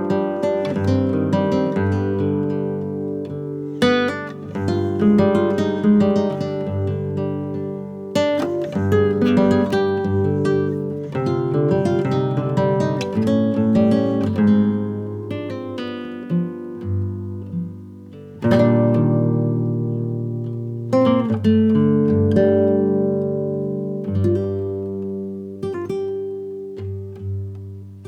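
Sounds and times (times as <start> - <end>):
acoustic guitar playing chords: 0.0 - 28.0.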